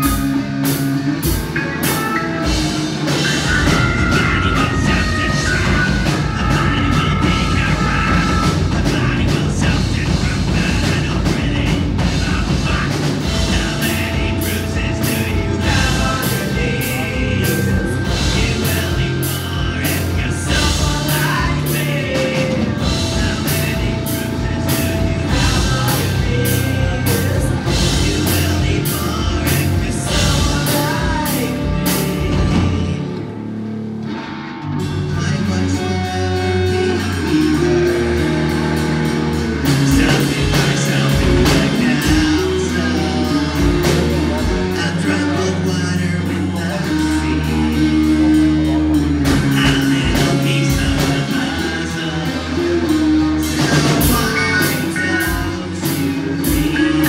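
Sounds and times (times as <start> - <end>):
person singing: 0.0 - 33.4, 34.8 - 57.0
bass guitar: 0.0 - 57.0
drum kit with cymbal beat: 0.0 - 57.0
electric guitar: 0.0 - 57.0.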